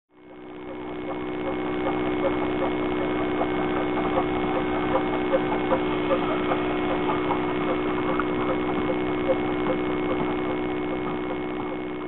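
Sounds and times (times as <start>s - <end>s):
film projector hum: 0.1s - 12.0s.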